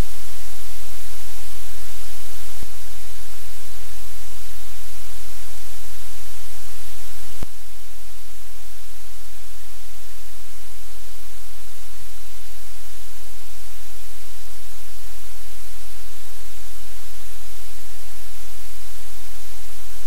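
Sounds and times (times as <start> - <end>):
loud static hiss: 0.0 - 20.0.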